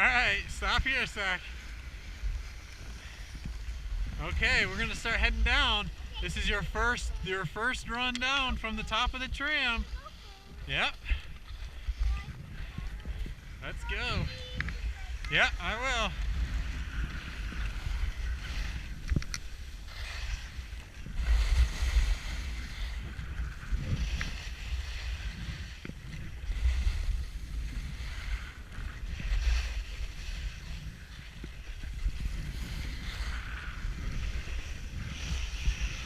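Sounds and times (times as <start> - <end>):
skis scraping over snow: 0.0 - 36.0
wind buffeting microphone: 0.0 - 36.0.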